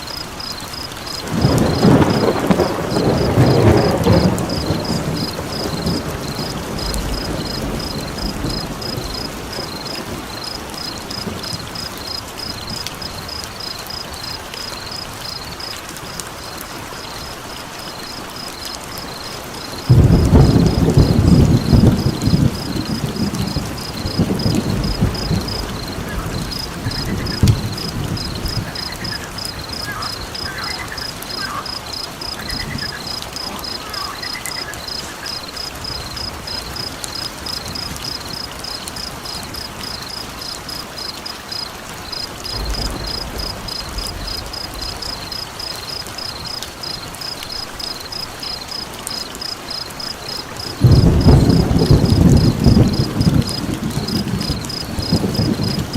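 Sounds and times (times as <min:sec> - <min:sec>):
thunder rumbling: 0:00.0 - 0:15.7, 0:18.5 - 0:48.7, 0:49.3 - 0:55.9
insect chirping: 0:00.0 - 0:55.9
rain hiss: 0:00.0 - 0:55.9.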